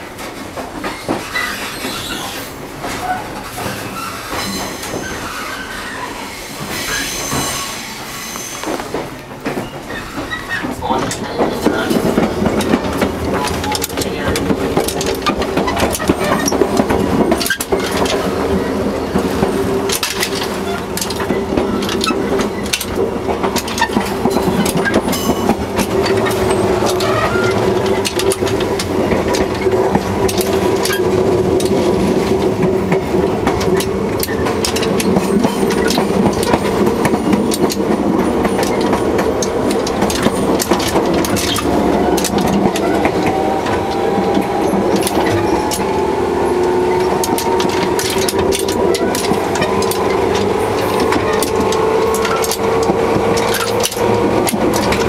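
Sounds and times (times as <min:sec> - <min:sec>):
train coupler rattling and knocking: 0:00.0 - 0:05.6, 0:06.6 - 0:55.0
rail noise: 0:00.0 - 0:55.0.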